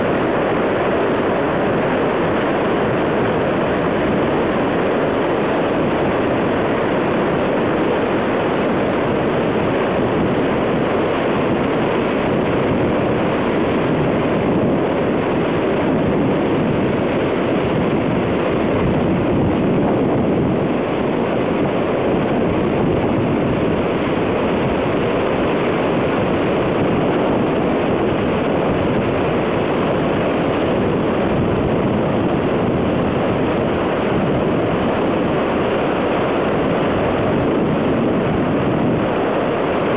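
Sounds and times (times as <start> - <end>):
river water roaring: 0.0 - 39.9.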